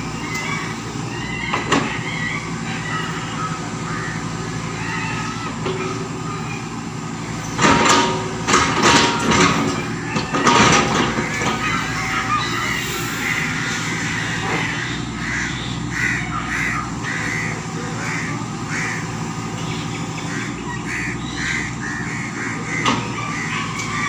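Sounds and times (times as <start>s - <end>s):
bird calling: 0.0s - 24.0s
excavator diesel engine running: 0.0s - 24.0s.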